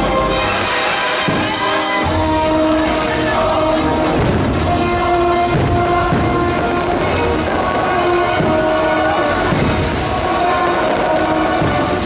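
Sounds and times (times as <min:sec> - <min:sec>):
orchestral soundtrack with drums: 0:00.0 - 0:12.0
fireworks shells bursting: 0:00.1 - 0:12.0.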